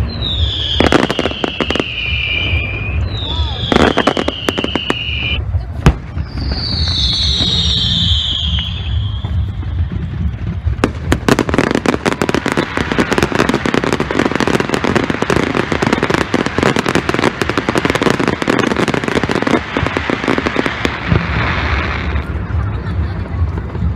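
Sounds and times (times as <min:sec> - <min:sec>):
fireworks bangs: 0:00.0 - 0:23.9
fireworks crackling: 0:00.0 - 0:23.9.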